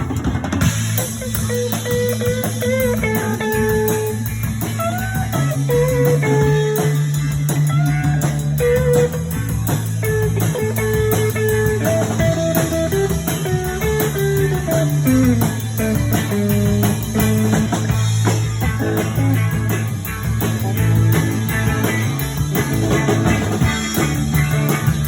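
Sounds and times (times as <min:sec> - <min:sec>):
bass line: 0:00.0 - 0:25.0
lead guitar: 0:00.0 - 0:25.0.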